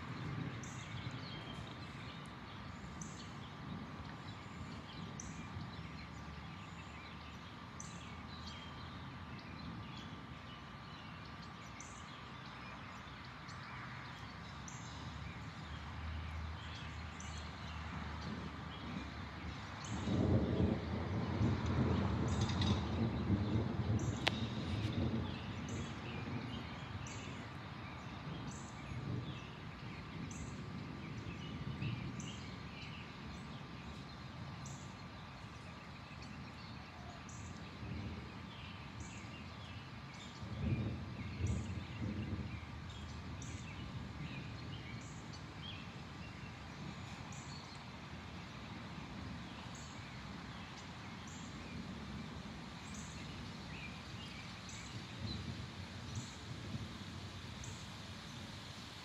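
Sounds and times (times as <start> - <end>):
distant thunder rumbling: 0.0 - 6.8, 14.9 - 35.7, 36.3 - 58.5.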